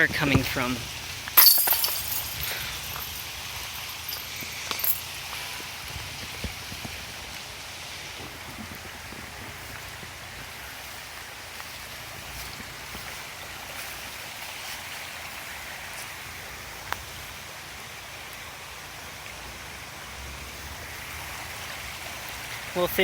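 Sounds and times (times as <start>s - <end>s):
creek water rushing: 2.4s - 23.0s.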